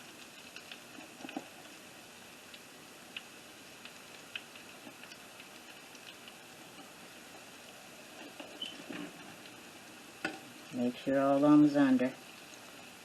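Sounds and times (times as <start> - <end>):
oil sizzling with sharp pops: 0.0 - 13.0.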